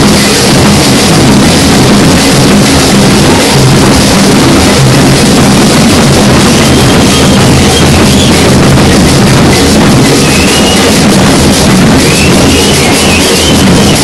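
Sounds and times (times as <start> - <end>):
bass drums pounded with sticks: 0.0 - 14.0.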